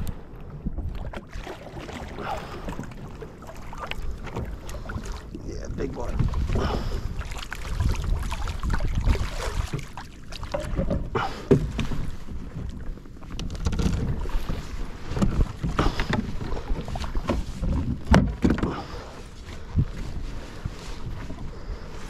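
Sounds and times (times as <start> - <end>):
wind buffeting microphone: 0.0 - 10.0, 10.6 - 22.0
water lapping against hull: 0.0 - 22.0.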